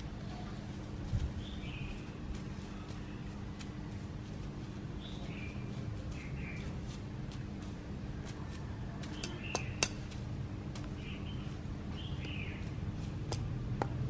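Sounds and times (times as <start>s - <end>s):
small birds chirping faintly: 0.0s - 14.0s
steady low hum: 0.0s - 14.0s.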